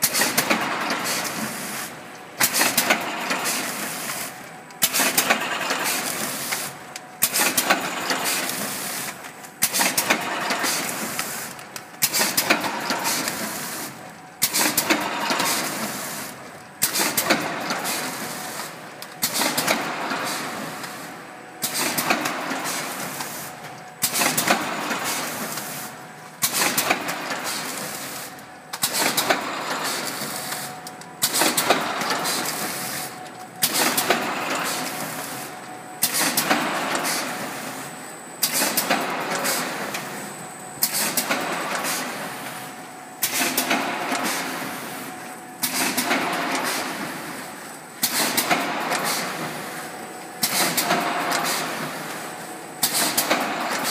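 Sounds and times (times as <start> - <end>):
packing machine running: 0.0 - 53.9.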